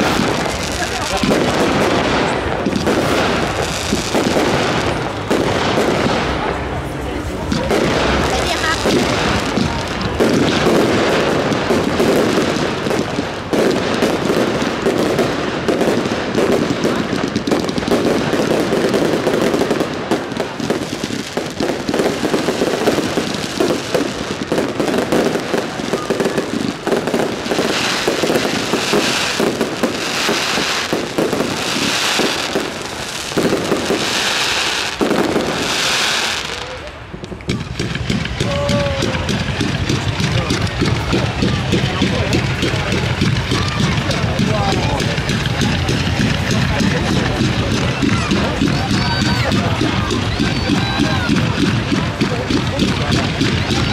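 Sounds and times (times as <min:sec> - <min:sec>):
fireworks bangs and crackling: 0:00.0 - 0:53.9
sharp high crackling pulses: 0:00.0 - 0:53.9.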